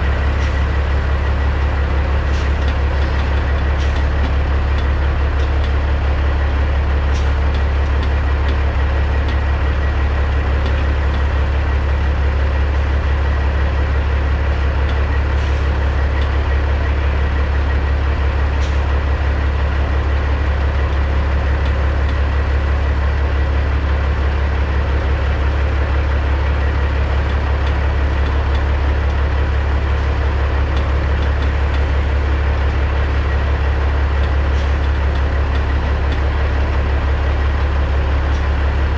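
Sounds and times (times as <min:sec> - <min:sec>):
diesel truck idling: 0:00.0 - 0:38.9.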